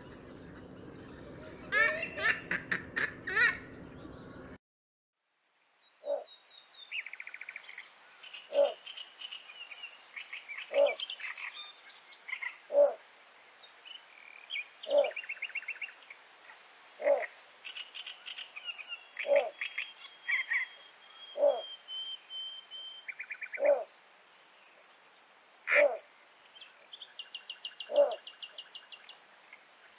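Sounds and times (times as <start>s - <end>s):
reed birds chirping and trilling: 0.0s - 4.6s, 5.8s - 29.9s.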